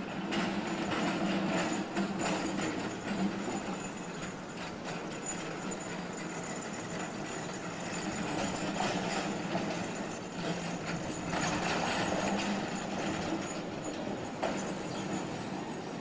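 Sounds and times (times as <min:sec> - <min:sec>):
streetcar humming: 0:00.0 - 0:16.0
wheels clicking on rails: 0:00.0 - 0:16.0.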